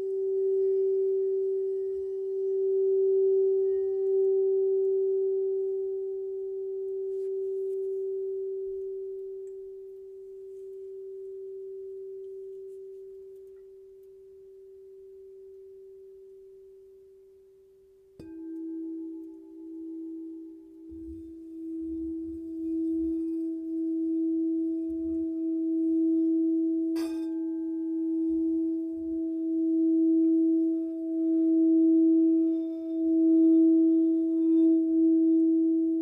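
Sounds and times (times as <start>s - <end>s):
lower bowl struck: 0.0s - 17.1s, 18.2s - 36.0s
sound bowl ringing: 0.0s - 17.5s, 18.2s - 36.0s.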